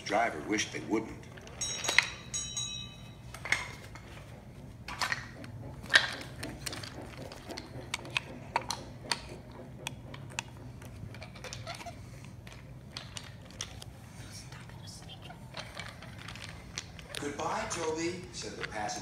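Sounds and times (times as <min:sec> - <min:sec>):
faint low hum: 0:00.0 - 0:19.0
wooden toy train clicking: 0:00.6 - 0:19.0.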